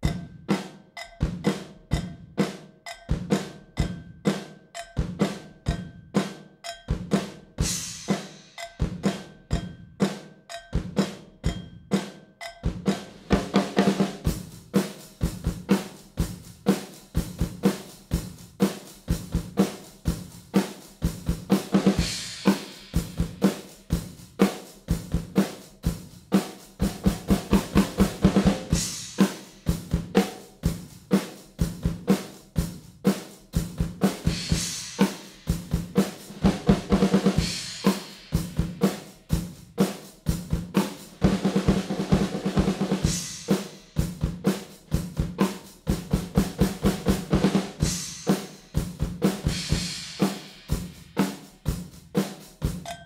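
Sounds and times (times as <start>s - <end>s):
snare and bass drum strokes: 0.0s - 53.0s.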